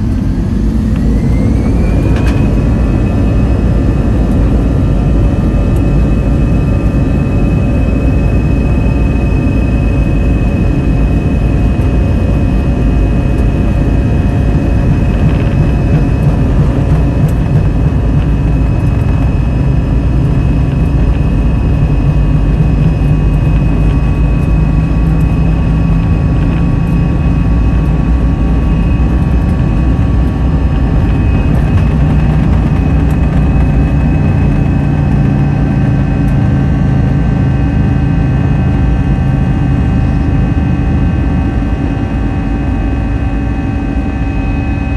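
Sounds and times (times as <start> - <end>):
high whining engine tones: 0.0 - 44.9
jet engines roaring in cabin: 0.0 - 44.9.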